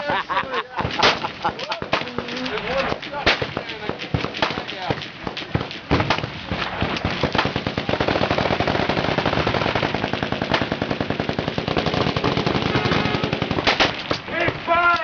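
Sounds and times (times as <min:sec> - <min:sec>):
machine guns firing: 0:00.8 - 0:14.7.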